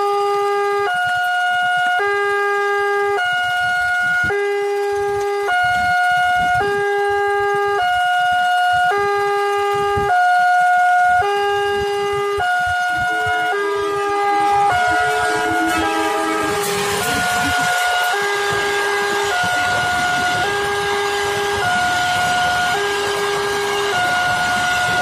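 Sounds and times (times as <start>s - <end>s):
level crossing two-tone alarm: 0.0s - 25.0s.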